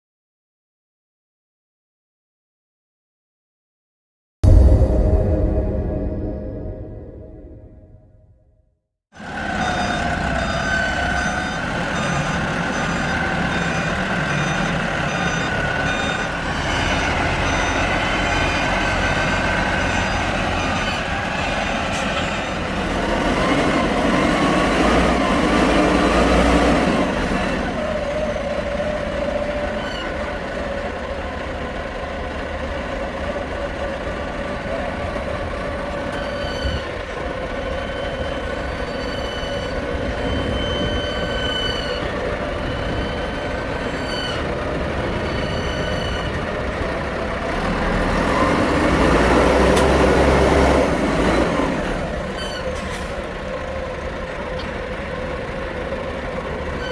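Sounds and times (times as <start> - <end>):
heavy diesel machinery running: 9.2 - 56.9.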